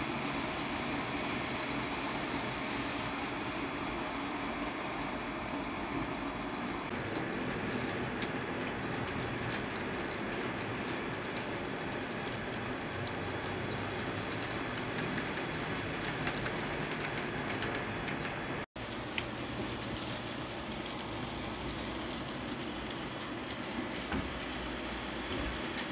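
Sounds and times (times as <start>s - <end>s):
model train running: 0.0s - 25.9s.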